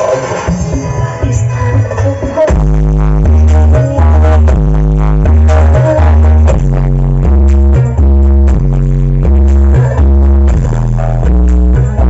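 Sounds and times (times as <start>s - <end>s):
loud electronic dance music: 0.0s - 12.0s.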